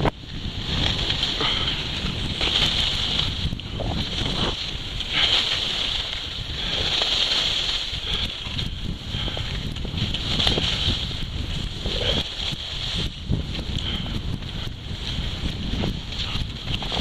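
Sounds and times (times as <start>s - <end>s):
skis scraping on snow: 0.0s - 17.0s
wind buffeting microphone: 0.0s - 17.0s.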